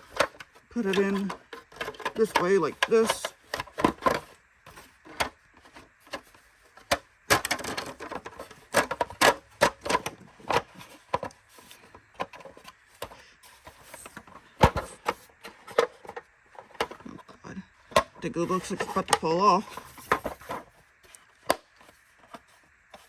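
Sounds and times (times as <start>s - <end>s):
plastic parts knocking and clicking: 0.0s - 23.0s.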